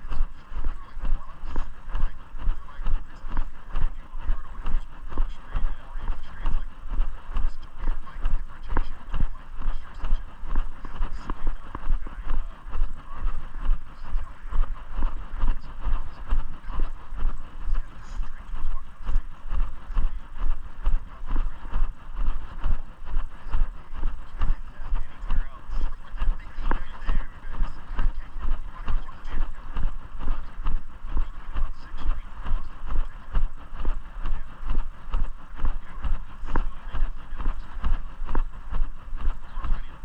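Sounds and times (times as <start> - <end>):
footsteps walking: 0.0 - 39.8.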